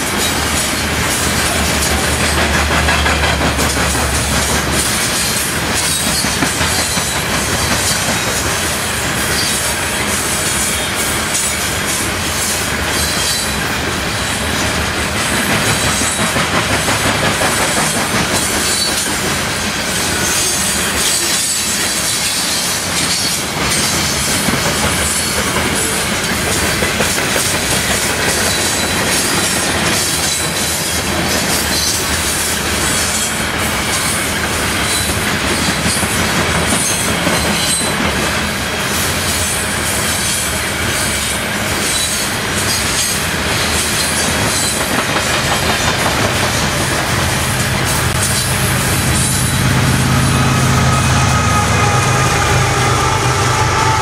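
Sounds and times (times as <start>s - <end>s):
train wheels rushing on rail: 0.0s - 54.0s.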